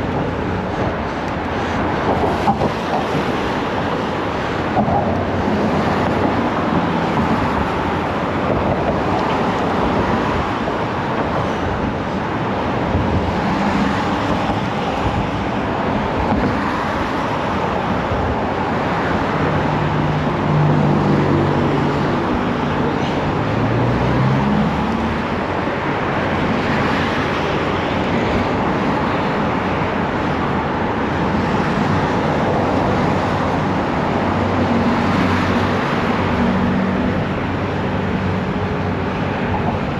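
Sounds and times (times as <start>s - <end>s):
road traffic: 0.0s - 39.9s
wind noise: 0.0s - 39.9s.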